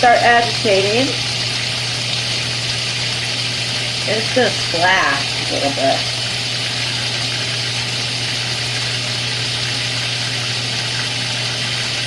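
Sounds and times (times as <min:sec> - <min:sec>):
water pouring into washer tub: 0:00.0 - 0:12.0.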